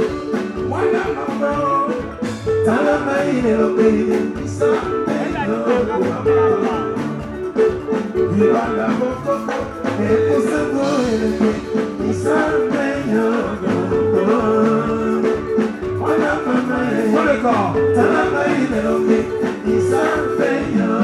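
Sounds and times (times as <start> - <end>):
live dance band playing: 0.0 - 21.0.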